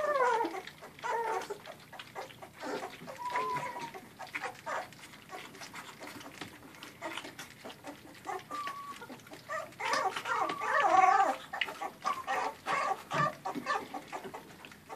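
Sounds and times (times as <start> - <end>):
puppies lapping food: 0.0 - 14.9
puppy squealing and whining: 0.0 - 14.9.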